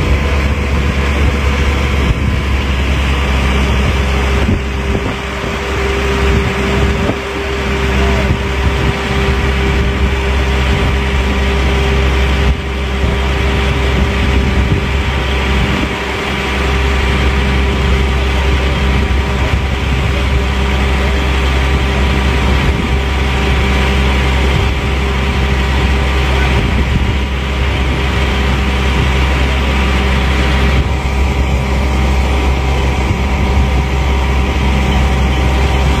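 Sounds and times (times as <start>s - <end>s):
constant hum: 0.0s - 36.0s
road noise: 0.0s - 36.0s
vehicle engine rumble: 0.0s - 36.0s.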